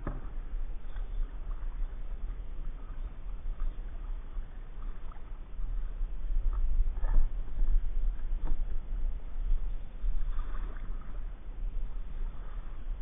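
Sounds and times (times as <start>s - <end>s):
paddle splashes and drips: 0.0s - 13.0s
steady low rumble: 0.0s - 13.0s.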